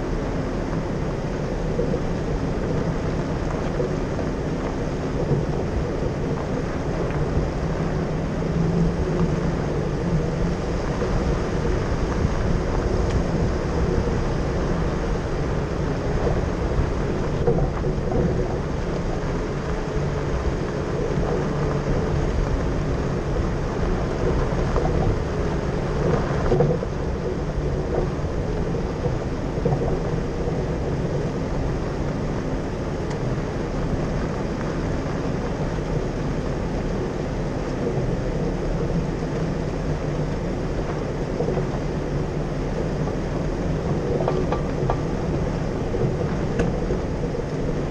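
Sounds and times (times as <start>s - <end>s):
tyres rumbling on gravel: 0.0s - 47.9s
wind: 0.0s - 47.9s.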